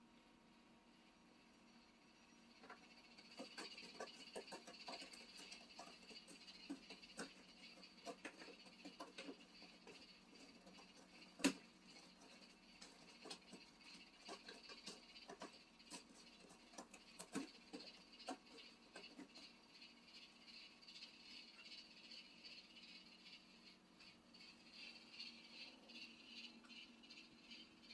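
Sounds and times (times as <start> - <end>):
faint small clicks and crackles: 2.5 - 27.9.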